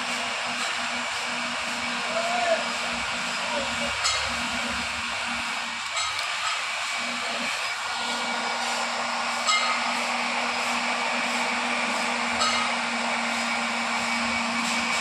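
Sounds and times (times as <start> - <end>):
hot-air welding gun blowing: 0.0 - 15.0.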